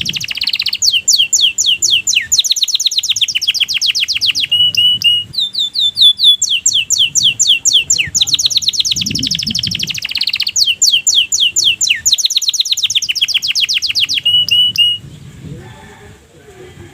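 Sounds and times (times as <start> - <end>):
canary singing trills: 0.0 - 15.3.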